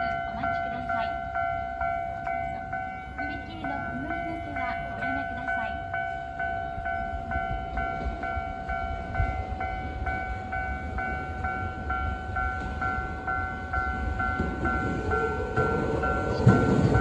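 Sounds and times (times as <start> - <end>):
level crossing warning bell: 0.0 - 17.0
train rumble: 0.0 - 17.0.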